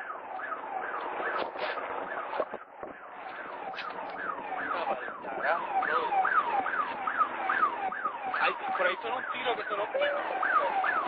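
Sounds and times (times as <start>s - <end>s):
electronic siren sweeping: 0.0s - 11.0s.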